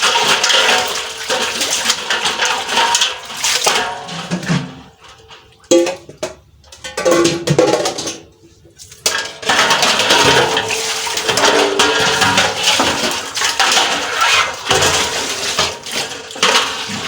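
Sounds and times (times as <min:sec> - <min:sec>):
dishes and pots clattering: 0:00.0 - 0:17.0.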